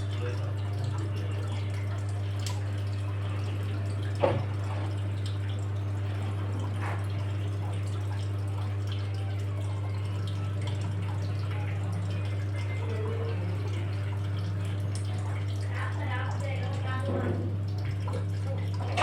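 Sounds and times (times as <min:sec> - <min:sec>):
washing machine motor hum: 0:00.0 - 0:19.0
water sloshing in drum: 0:00.0 - 0:19.0.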